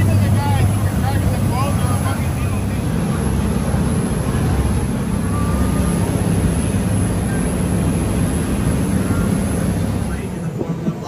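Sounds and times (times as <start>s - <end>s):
boat engine drone: 0.0s - 11.0s
water rushing past hull: 0.0s - 11.0s.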